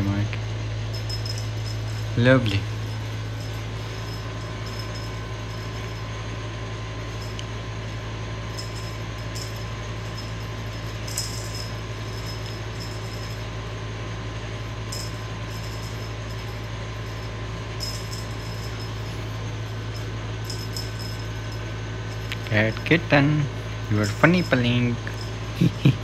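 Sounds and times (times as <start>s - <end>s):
faint constant tone: 0.0s - 26.0s
low electrical hum: 0.0s - 26.0s.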